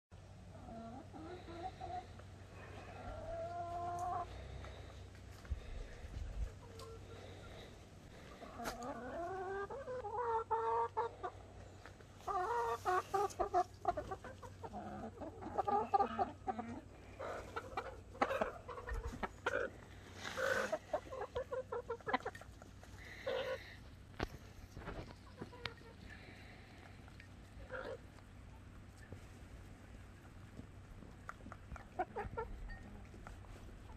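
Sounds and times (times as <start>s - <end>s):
hens clucking: 0.2s - 33.9s.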